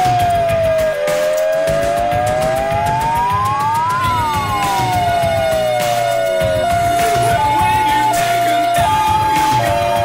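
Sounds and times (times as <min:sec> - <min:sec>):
background music with beat: 0:00.0 - 0:10.0
siren wailing: 0:00.0 - 0:10.0.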